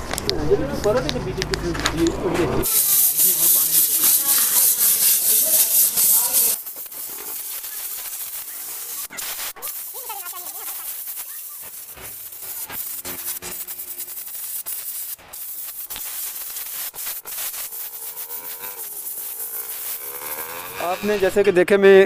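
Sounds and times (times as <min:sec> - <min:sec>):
air blow gun hissing: 0:02.6 - 0:21.4.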